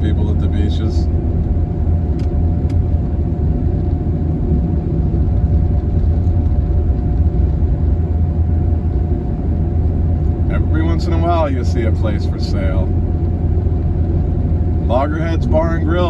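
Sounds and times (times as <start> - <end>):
faint steady hum: 0.0 - 16.0
vehicle rumble from inside cabin: 0.0 - 16.0.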